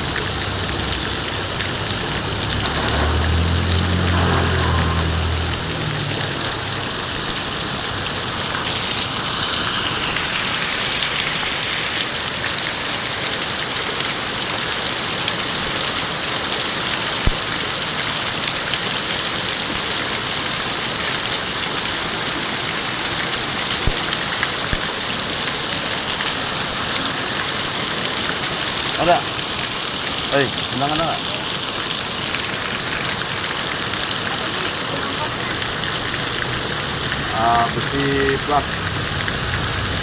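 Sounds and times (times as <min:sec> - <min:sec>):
heavy rain pouring on road: 0:00.0 - 0:40.0.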